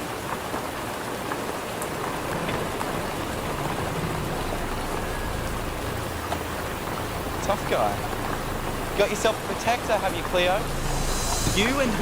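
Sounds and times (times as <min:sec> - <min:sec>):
rain falling: 0:00.0 - 0:12.0
raindrops ticking: 0:00.0 - 0:12.0.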